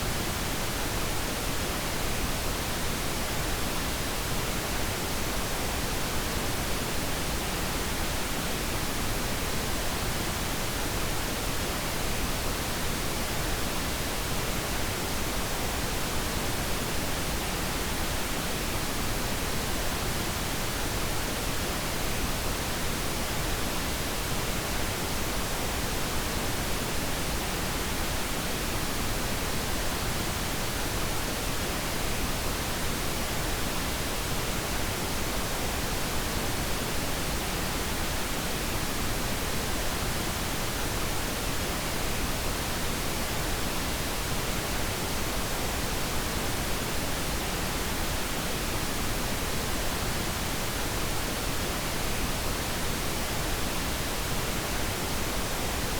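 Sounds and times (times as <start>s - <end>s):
steady noise hiss: 0.0s - 55.9s.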